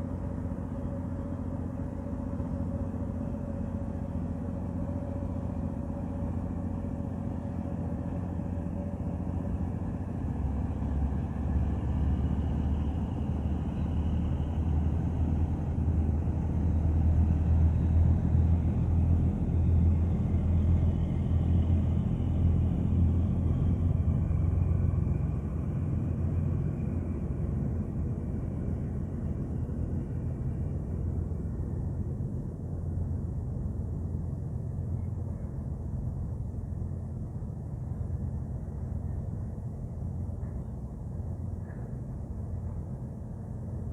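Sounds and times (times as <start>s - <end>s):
ship engine low rumble: 0.0s - 43.9s.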